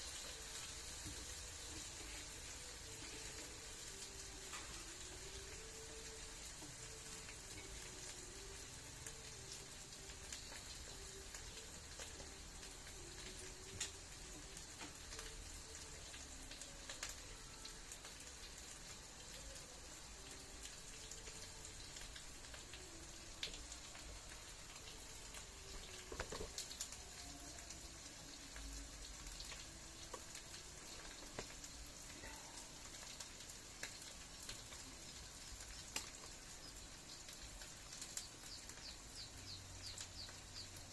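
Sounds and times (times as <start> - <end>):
food sizzling in a pan: 0.0 - 40.9.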